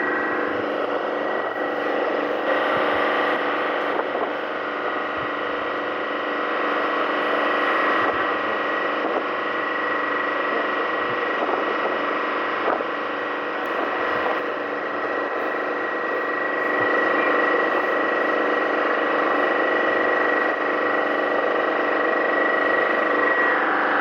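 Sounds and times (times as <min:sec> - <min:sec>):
boat engine droning: 0:00.0 - 0:24.0
thin steady whine: 0:00.0 - 0:24.0.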